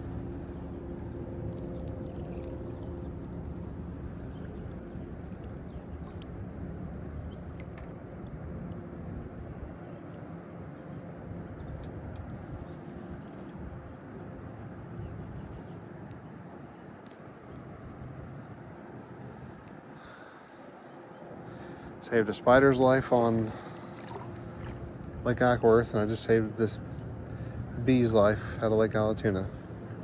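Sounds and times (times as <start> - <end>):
low rumble with faint hum: 0.0 - 30.0
songbirds chirping: 0.0 - 30.0.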